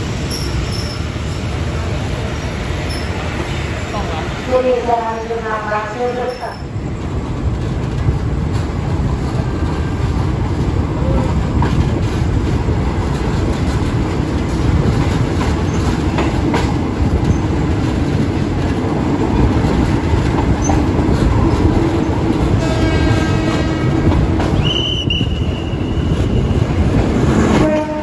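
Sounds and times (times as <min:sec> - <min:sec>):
train wheels rumbling on rails: 0:00.0 - 0:28.0
rail joint clacks: 0:00.2 - 0:01.4, 0:02.8 - 0:03.6, 0:05.2 - 0:28.0.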